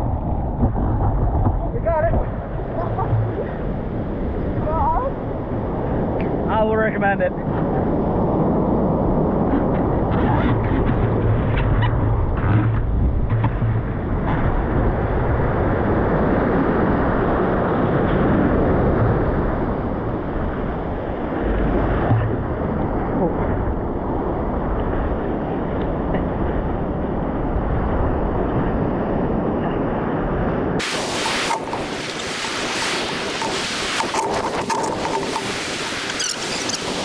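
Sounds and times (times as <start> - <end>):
steady rushing noise: 0.0 - 29.6, 30.6 - 37.0
wind buffeting microphone: 0.0 - 37.0.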